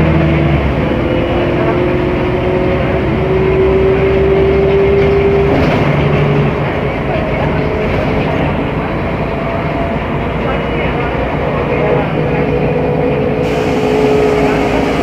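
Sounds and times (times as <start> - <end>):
bus engine whine: 0.0 - 15.0.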